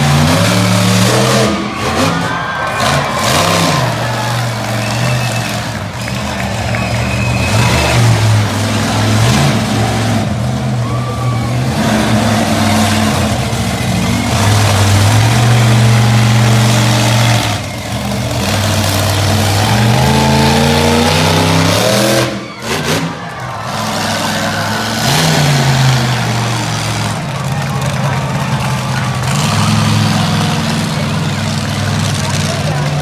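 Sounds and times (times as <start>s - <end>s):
monster truck engine revving: 0.0s - 33.0s.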